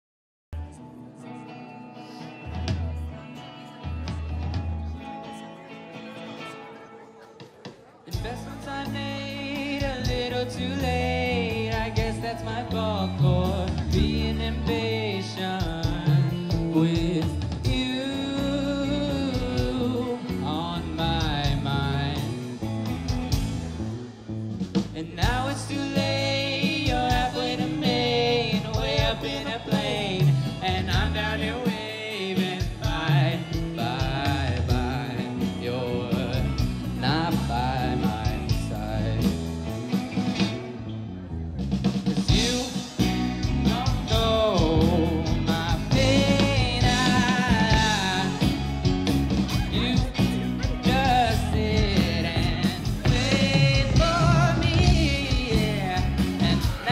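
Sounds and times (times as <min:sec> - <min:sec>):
electric guitars: 0:00.6 - 0:56.9
person singing into microphone: 0:05.1 - 0:22.6, 0:25.0 - 0:39.5, 0:42.3 - 0:56.9
drum kit: 0:07.2 - 0:40.8, 0:41.4 - 0:56.9.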